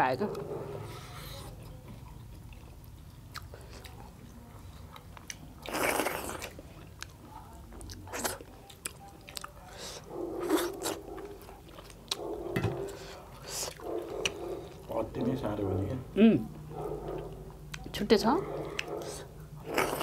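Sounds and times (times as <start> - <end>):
chewing and biting: 1.0 - 15.0, 17.0 - 20.0.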